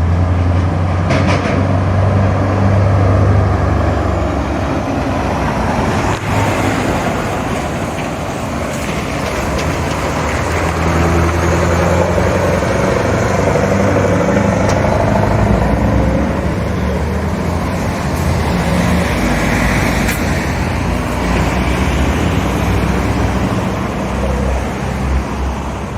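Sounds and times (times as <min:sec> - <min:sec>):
diesel truck engine running: 0:01.7 - 0:24.1.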